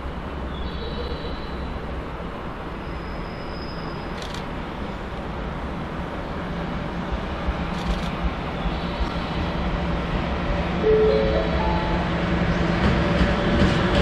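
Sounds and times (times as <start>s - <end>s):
freight train rumbling: 0.0s - 14.0s.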